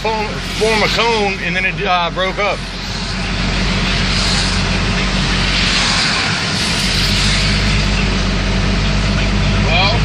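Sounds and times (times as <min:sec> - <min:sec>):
road noise hiss: 0:00.0 - 0:10.0
vehicle engine hum: 0:00.0 - 0:10.0.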